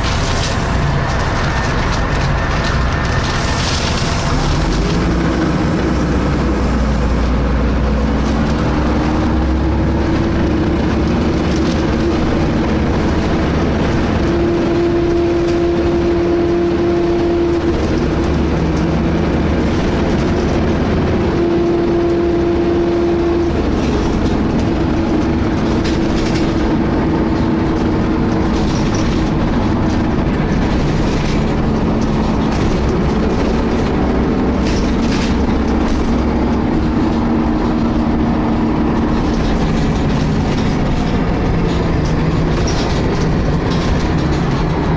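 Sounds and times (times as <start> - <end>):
bus whine: 0.0 - 44.9
engine and road rumble: 0.0 - 44.9.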